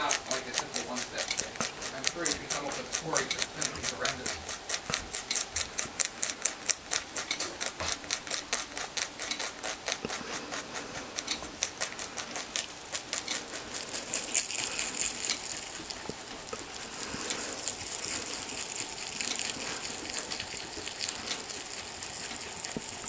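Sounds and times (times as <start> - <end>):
rabbit chewing crisp crunching: 0.0 - 23.0.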